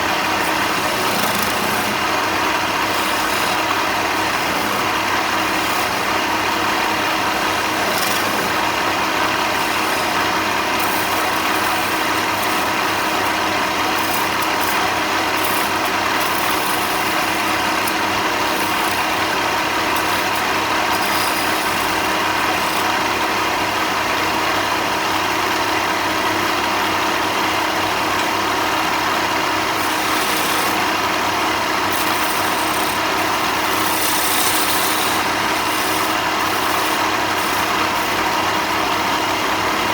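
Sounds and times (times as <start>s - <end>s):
woodworking power tool humming: 0.0s - 39.9s.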